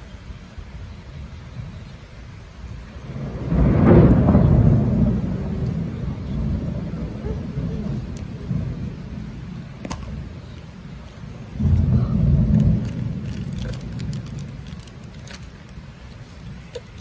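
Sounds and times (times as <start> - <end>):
heavy rain: 0.0 - 17.0
thunder rumbling: 2.6 - 17.0.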